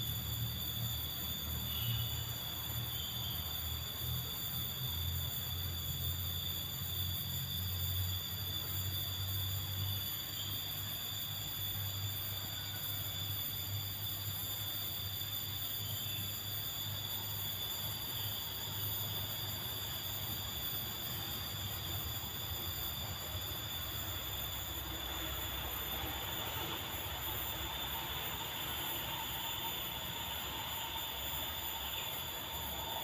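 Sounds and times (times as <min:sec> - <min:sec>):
steady high-pitched whine: 0:00.0 - 0:33.0.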